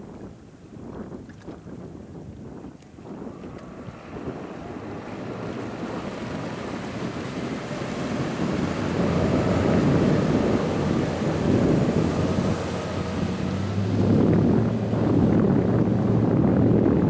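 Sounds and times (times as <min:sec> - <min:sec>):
motorboat outboard engines: 0:00.0 - 0:17.0
wind buffeting microphone: 0:00.0 - 0:17.0
water rushing: 0:02.8 - 0:17.0.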